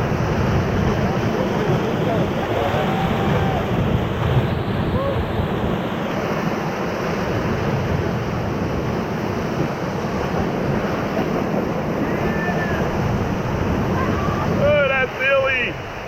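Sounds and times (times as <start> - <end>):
whitewater rapids rushing: 0.0 - 16.0.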